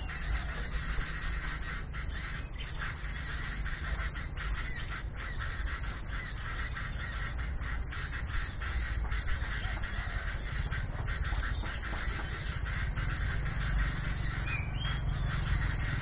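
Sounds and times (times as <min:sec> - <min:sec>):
birds squawking: 0:00.0 - 0:16.0
steady low rumble: 0:00.0 - 0:16.0.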